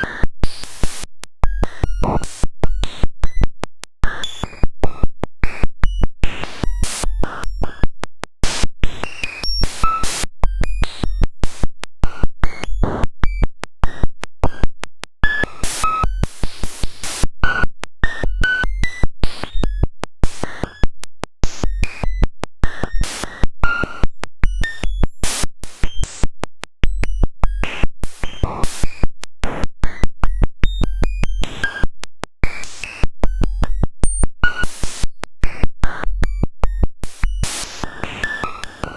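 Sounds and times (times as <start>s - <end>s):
harsh clicks and buzzing noise: 0.0s - 31.8s, 32.4s - 38.9s.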